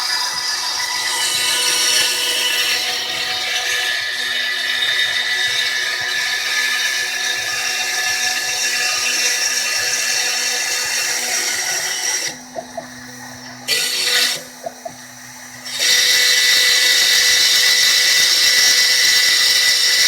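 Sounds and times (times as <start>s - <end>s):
quiet machine hum: 0.0s - 19.4s
milling machine cutting wood: 0.0s - 20.0s.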